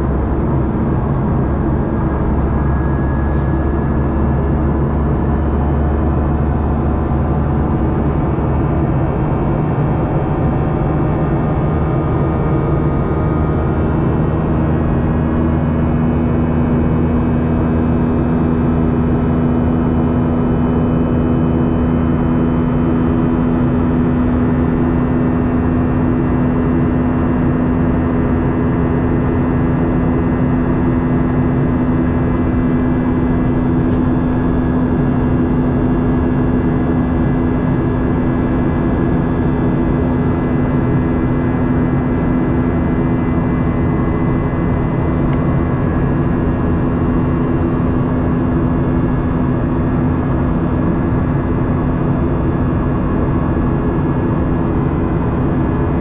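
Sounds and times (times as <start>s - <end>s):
jet engine drone: 0.0s - 56.0s
low hum: 0.0s - 56.0s.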